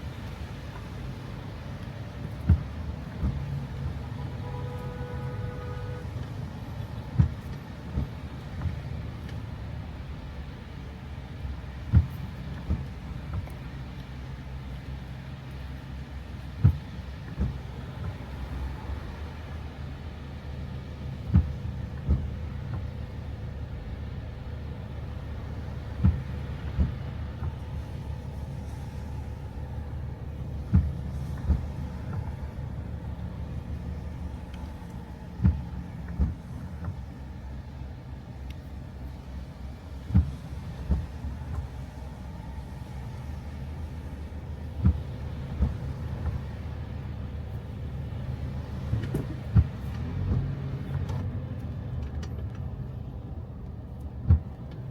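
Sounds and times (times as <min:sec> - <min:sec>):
car road rumble: 0:00.0 - 0:54.9.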